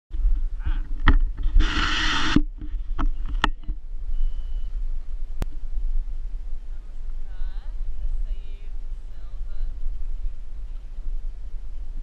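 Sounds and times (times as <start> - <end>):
wind rumble on microphone: 0.1 - 12.0.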